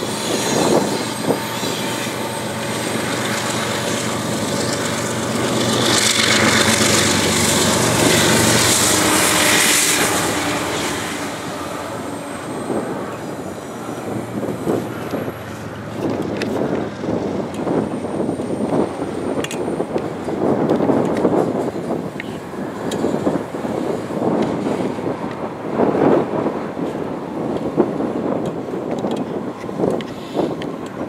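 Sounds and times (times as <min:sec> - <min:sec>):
diesel locomotive engine drone: 0:00.0 - 0:31.0
train cars rolling by: 0:00.0 - 0:31.0.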